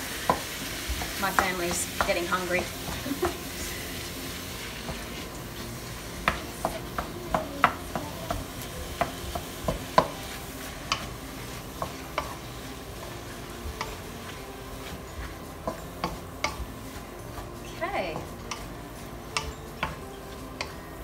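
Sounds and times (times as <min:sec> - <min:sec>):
meat sizzling in hot oil: 0:00.0 - 0:21.0
wooden spatula scraping pan: 0:00.2 - 0:20.8.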